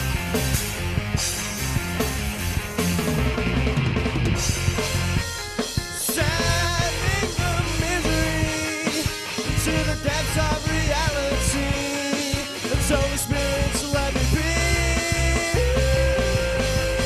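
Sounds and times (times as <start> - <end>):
drum kit: 0.0 - 17.0
electric guitar: 0.0 - 17.0
punk rock band music: 0.0 - 17.0.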